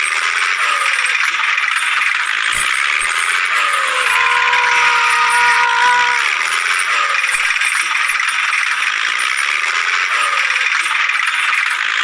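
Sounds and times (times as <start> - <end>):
toy motors buzzing and rattling: 0.0 - 12.0.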